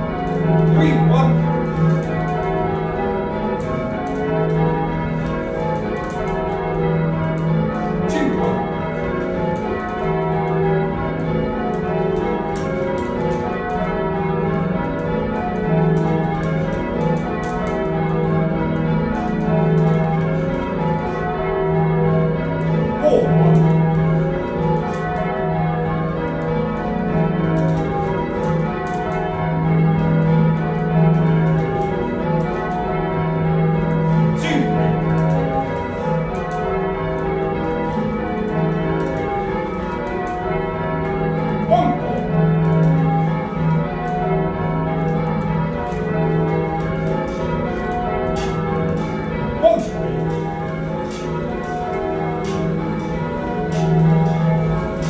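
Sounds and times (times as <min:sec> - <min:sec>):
church bells change ringing: 0:00.0 - 0:55.0.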